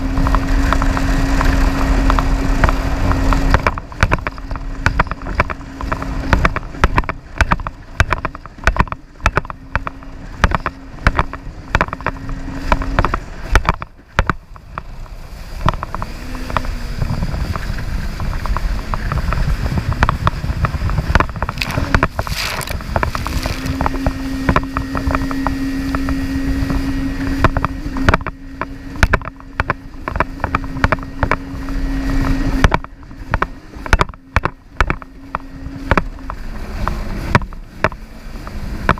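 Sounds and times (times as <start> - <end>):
jet ski engine humming: 0.0 - 38.9.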